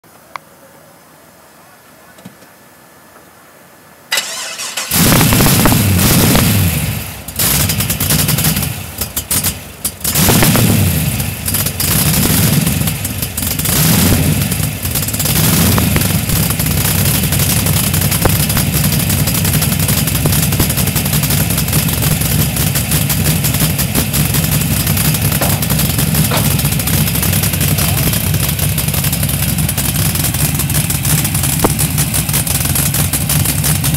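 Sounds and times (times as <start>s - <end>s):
car engine starting and revving: 4.1s - 33.9s
engine rough idle: 4.1s - 33.9s.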